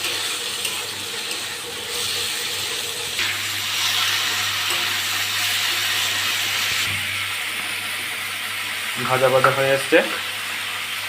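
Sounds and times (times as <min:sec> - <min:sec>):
meat frying in oil sizzling: 0:00.0 - 0:11.0.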